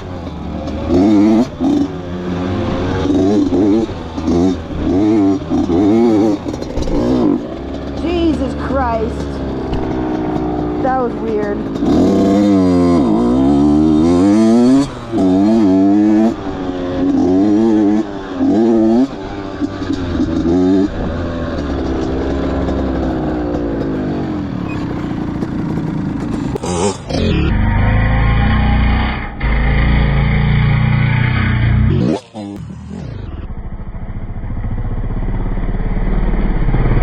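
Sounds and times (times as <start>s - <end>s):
deep engine rumble: 0.0s - 37.0s
dirt bike engine revving: 0.0s - 37.0s.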